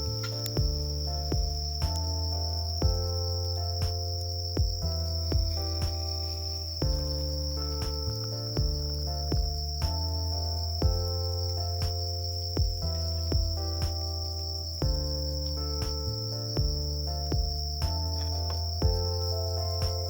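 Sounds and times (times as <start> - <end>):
crickets chirring: 0.0 - 20.0
slow melody over bass line: 0.0 - 20.0.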